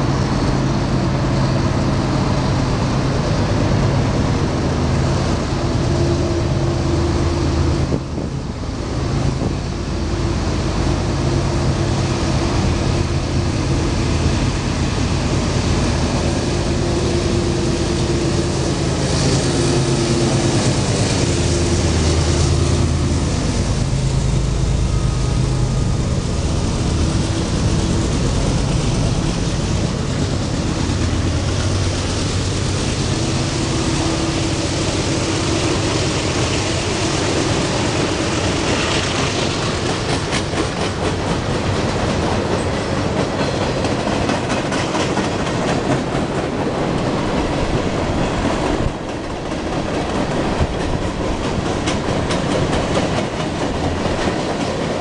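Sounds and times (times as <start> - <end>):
diesel locomotive engines humming: 0.0 - 55.0
freight cars rolling: 0.0 - 55.0.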